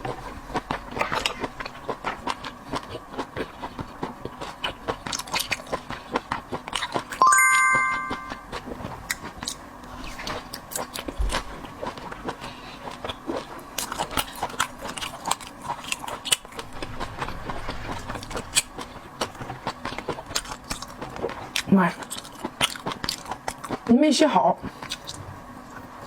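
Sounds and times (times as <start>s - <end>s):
chewing and crunching: 0.0s - 7.2s, 8.4s - 26.0s.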